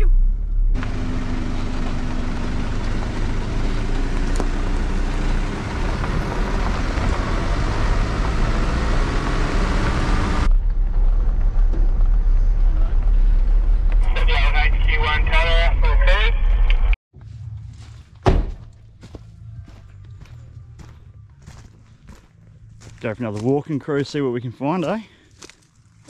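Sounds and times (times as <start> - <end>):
wind and tyre noise: 0.0 - 23.1
low engine rumble: 0.0 - 26.0.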